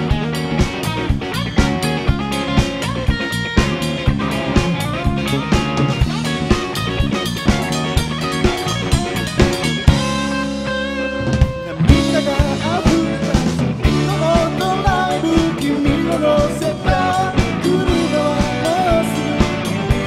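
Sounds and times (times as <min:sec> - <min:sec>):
bass guitar: 0:00.0 - 0:20.0
drum kit beat: 0:00.0 - 0:20.0
electric guitars: 0:00.0 - 0:20.0.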